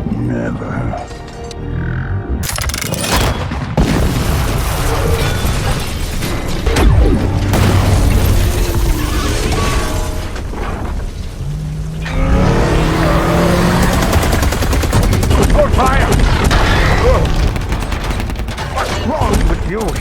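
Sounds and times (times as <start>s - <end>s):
dramatic film music: 0.0s - 4.0s, 4.6s - 20.0s
heavy booms and crashes: 3.2s - 20.0s.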